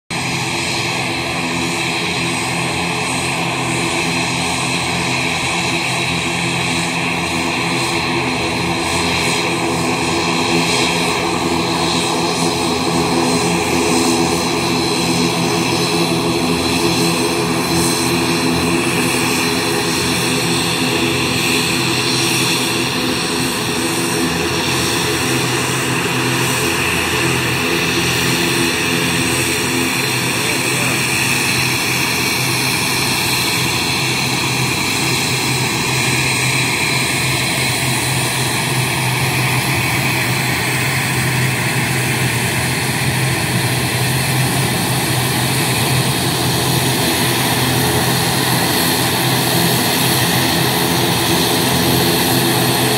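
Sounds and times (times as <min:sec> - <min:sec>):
turboprop engines droning: 0:00.1 - 0:52.9.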